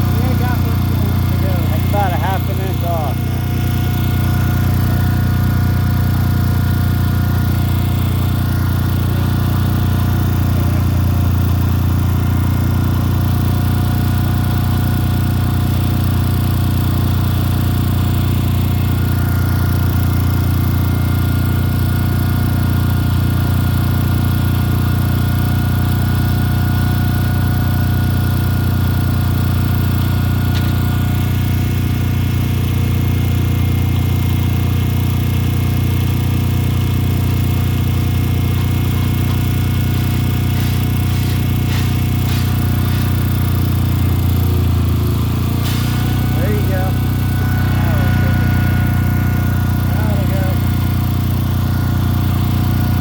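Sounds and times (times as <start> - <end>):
heavy machinery droning: 0.0 - 53.0.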